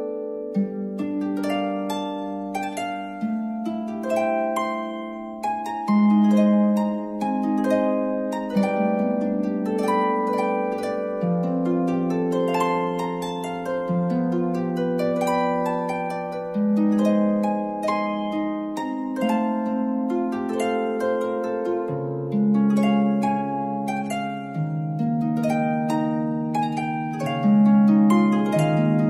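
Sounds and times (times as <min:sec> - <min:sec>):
plucked string melody: 0:00.0 - 0:29.0.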